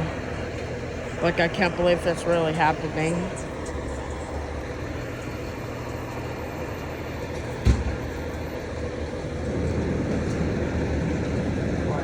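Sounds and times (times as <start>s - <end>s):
street noise: 0.0s - 12.0s
vehicle engines rumbling: 0.0s - 12.0s.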